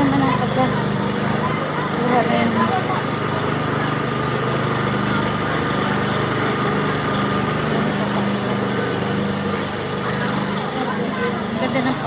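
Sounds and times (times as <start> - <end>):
steady mechanical drone: 0.0 - 12.0
thin steady whine: 0.0 - 12.0.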